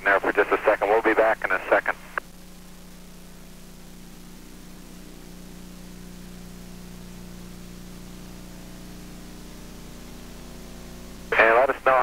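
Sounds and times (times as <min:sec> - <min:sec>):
low even hum: 0:00.0 - 0:12.0
steady hiss: 0:00.0 - 0:12.0.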